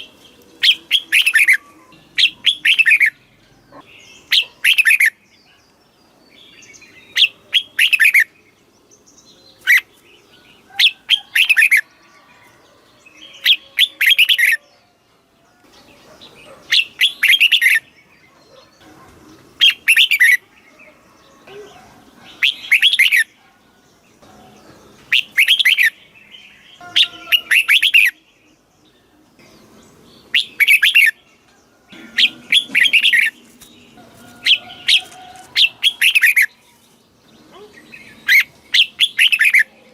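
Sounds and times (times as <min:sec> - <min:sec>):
bulbul singing warbled phrases: 0:00.0 - 0:12.0, 0:13.0 - 0:14.8, 0:15.6 - 0:39.9.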